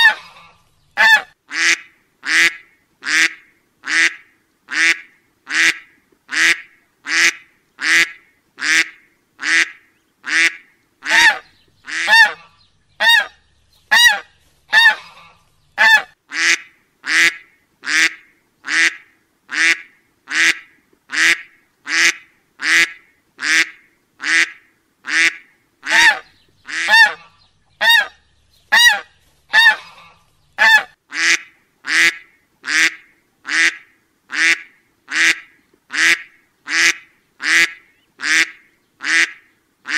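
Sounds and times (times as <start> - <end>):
duck quacking: 0.0 - 39.9.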